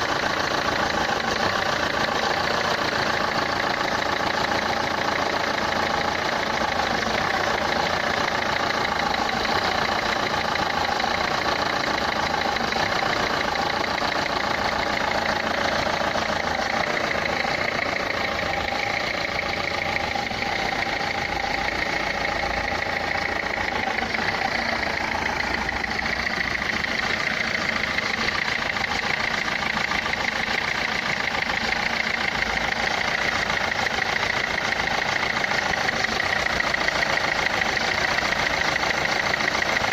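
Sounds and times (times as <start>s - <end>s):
diesel engine idling with clatter: 0.0s - 39.9s.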